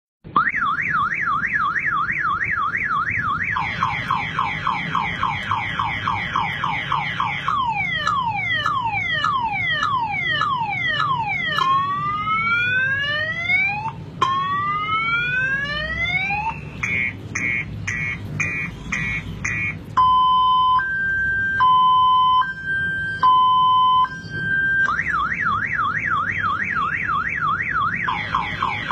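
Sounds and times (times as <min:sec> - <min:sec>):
car alarm: 0:00.2 - 0:28.9.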